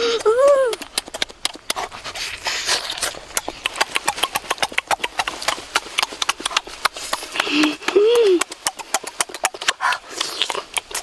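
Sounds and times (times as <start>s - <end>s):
wet mouth eating sounds: 0.0s - 11.0s.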